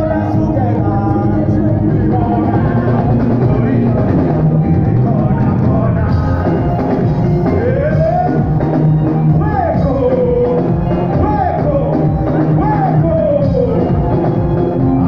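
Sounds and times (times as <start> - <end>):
bass: 0.0 - 15.0
drum kit: 0.0 - 15.0
keyboards: 0.0 - 15.0
sliding melody line: 0.0 - 15.0.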